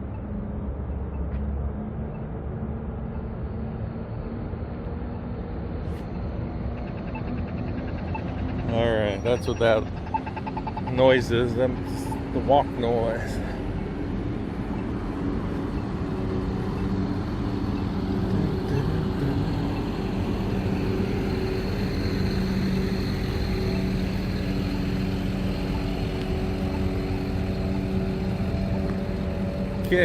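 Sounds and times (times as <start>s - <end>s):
road noise rumble: 0.0s - 30.0s
vehicle engine humming: 0.0s - 30.0s.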